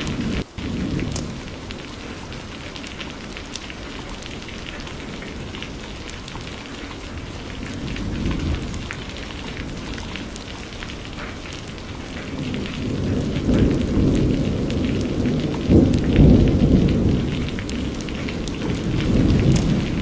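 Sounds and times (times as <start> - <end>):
distant thunder rumble: 0.0 - 20.0
steady rainfall: 0.0 - 20.0.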